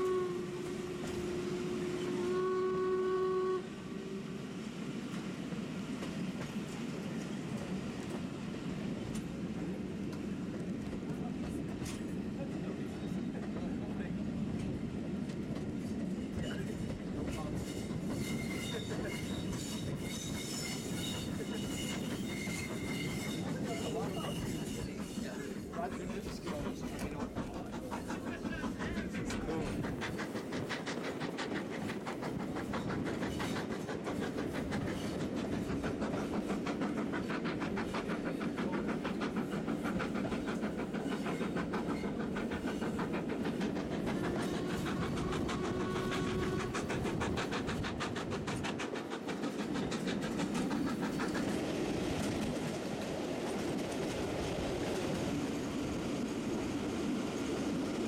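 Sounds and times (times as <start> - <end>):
train wheels clattering on rails: 5.1 - 58.0.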